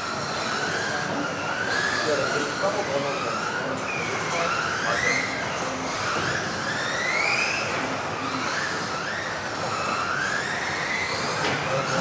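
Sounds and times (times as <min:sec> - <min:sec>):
electric rc car motors whining: 0:00.0 - 0:12.0.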